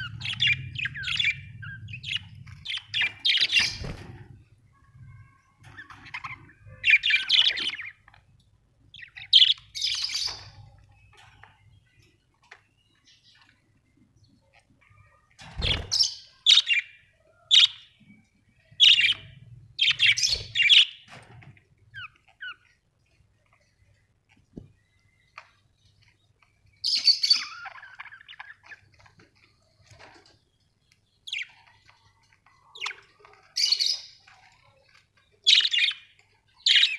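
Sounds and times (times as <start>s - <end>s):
budgerigars chirping and squawking: 0.0s - 4.5s, 5.6s - 8.3s, 8.9s - 13.7s, 14.5s - 23.6s, 26.8s - 30.3s, 31.2s - 36.9s.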